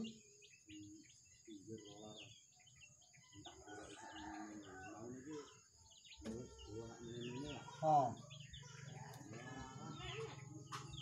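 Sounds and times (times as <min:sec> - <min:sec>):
bird chicks peeping: 0:00.0 - 0:11.0.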